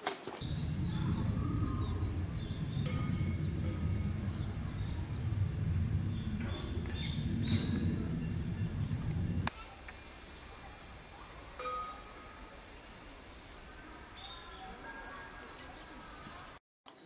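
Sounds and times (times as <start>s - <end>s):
low outdoor rumble: 0.4s - 16.6s
small birds chirping: 0.4s - 16.6s.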